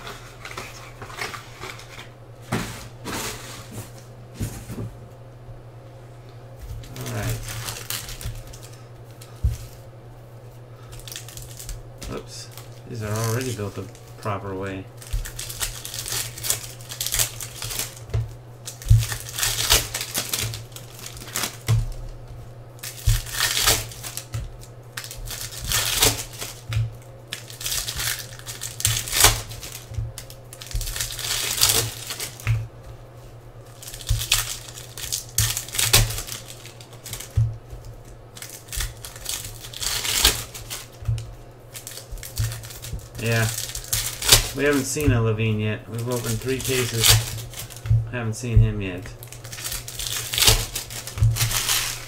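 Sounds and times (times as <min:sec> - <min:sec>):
foil wrappers crinkling and tearing: 0:00.0 - 0:02.1, 0:06.7 - 0:09.9, 0:10.8 - 0:52.0.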